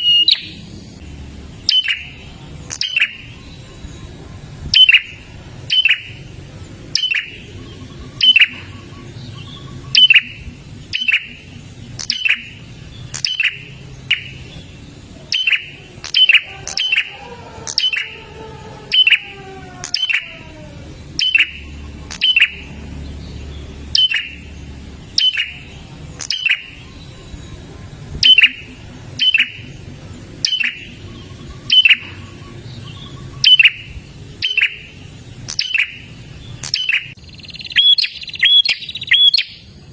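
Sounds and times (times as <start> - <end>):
bird calling sharp notes: 0.0 - 39.7.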